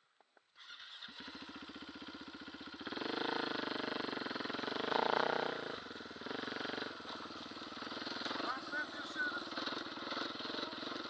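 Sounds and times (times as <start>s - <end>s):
dirt bike engine revving: 0.7s - 11.0s.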